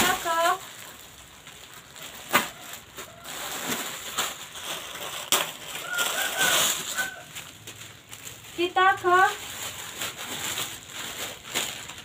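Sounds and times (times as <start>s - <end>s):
plastic wrap rustling: 0.0s - 12.0s.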